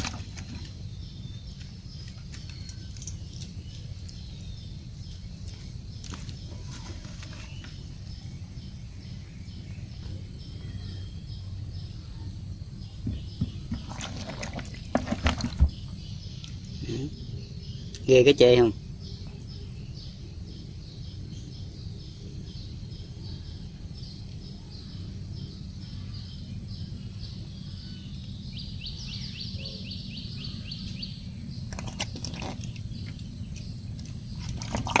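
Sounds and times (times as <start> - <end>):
bird chirping: 0.0 - 35.0
low background rumble: 0.0 - 35.0.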